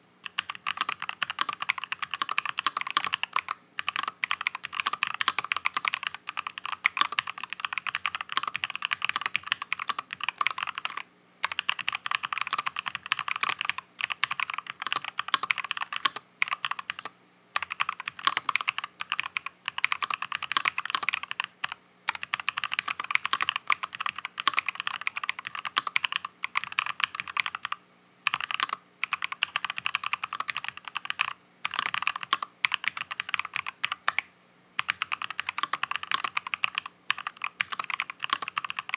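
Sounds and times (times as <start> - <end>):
fast typing on mechanical keyboard: 0.2 - 38.9.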